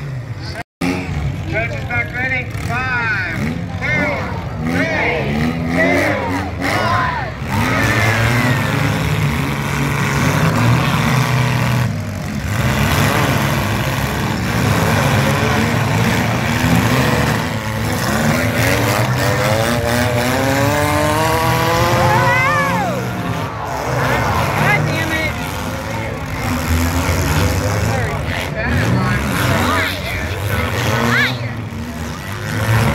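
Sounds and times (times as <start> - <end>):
car engines revving: 0.0 - 32.9
crowd noise: 0.0 - 32.9.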